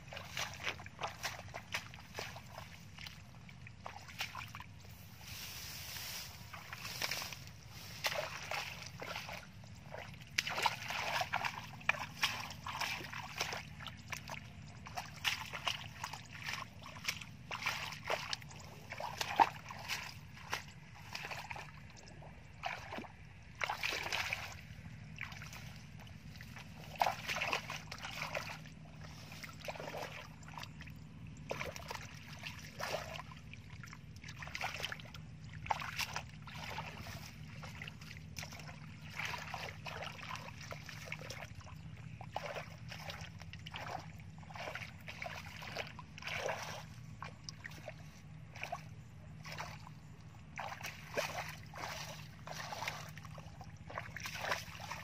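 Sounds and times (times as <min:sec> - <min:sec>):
low hum: 0:00.0 - 0:55.0
shallow water splashing: 0:00.0 - 0:55.0.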